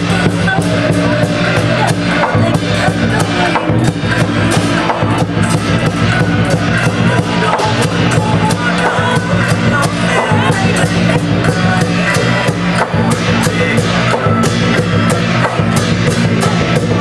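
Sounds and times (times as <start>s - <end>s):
steady drumbeat: 0.0s - 17.0s.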